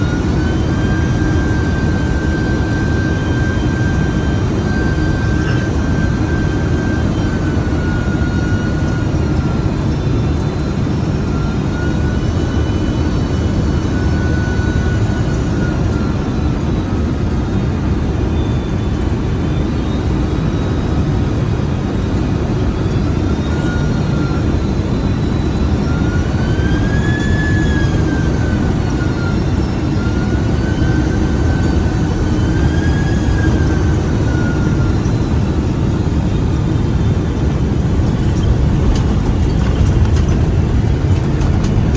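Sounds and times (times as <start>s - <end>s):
jet engine rumble in cabin: 0.0s - 41.9s
thin engine whine: 0.0s - 41.9s.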